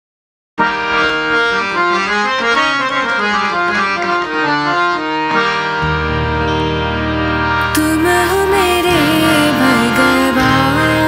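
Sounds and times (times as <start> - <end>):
harmonium melody: 0.6 - 11.0.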